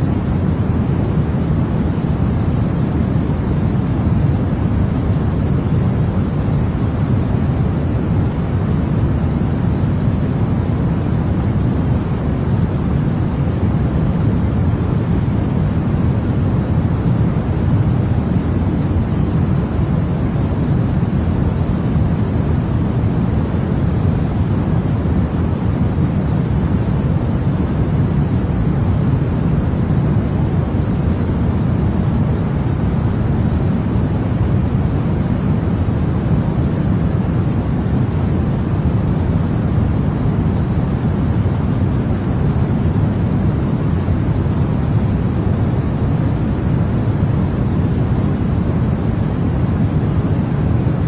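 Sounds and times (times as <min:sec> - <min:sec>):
deep white noise: 0:00.0 - 0:51.0.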